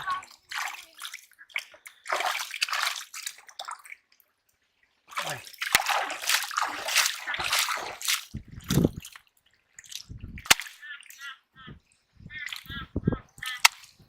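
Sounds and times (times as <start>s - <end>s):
water sloshing and splashing: 0.0s - 12.8s, 13.4s - 14.0s.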